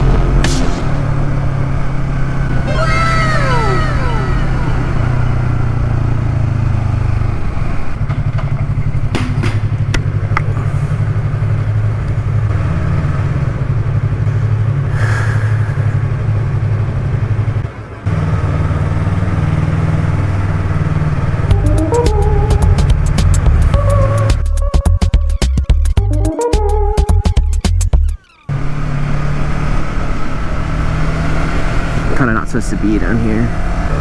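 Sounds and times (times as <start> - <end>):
motorcycle engine rumble: 0.0 - 34.0.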